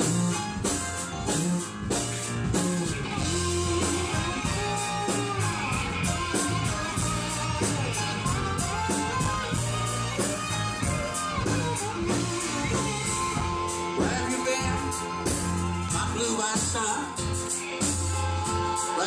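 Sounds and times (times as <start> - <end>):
drums beat: 0.0 - 19.0
electric guitar: 0.0 - 19.0.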